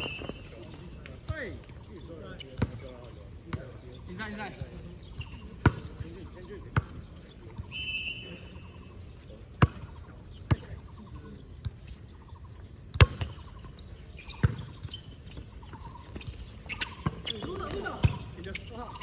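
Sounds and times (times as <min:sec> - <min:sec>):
sneakers squeaking on floor: 0:00.0 - 0:19.0.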